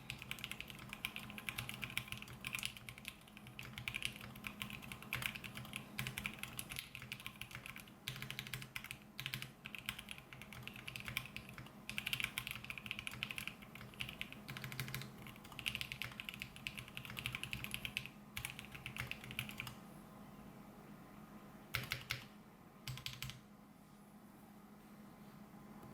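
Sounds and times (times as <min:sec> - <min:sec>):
mechanical keyboard typing: 0:00.0 - 0:19.8, 0:21.7 - 0:22.3, 0:22.9 - 0:23.4.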